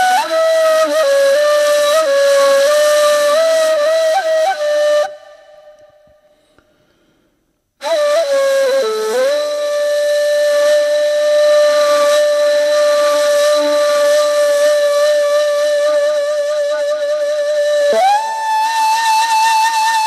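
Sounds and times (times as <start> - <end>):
flute-like wind instrument: 0.0 - 6.4, 7.8 - 20.0.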